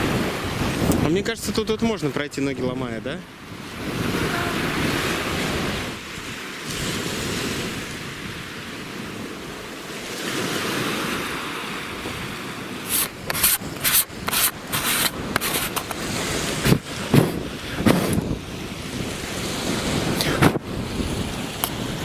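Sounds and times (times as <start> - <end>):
surf washing onto shore: 0.0 - 22.0
wind: 0.0 - 22.0.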